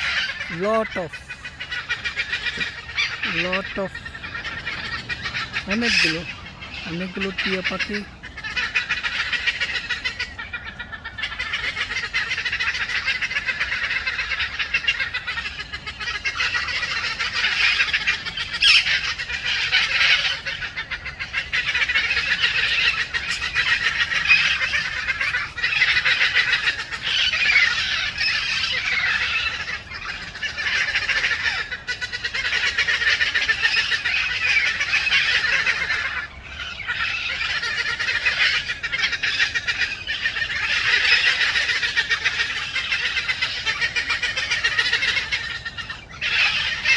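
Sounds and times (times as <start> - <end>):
parakeets screeching: 0.0 - 46.9.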